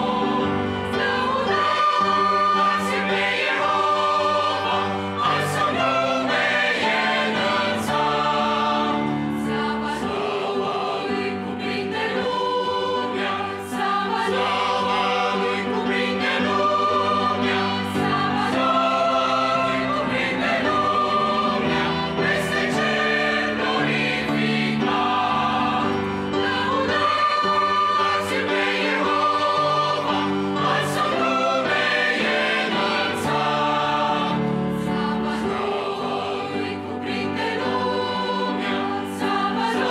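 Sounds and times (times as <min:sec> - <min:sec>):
mixed choir singing a hymn: 0:00.0 - 0:39.9.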